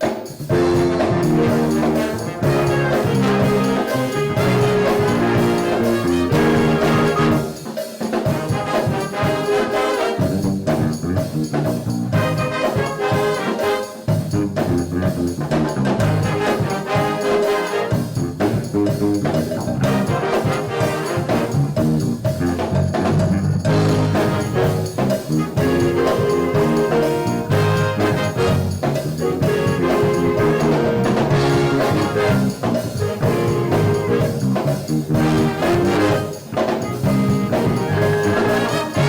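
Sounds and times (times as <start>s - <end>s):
jazz band music: 0.0s - 39.0s.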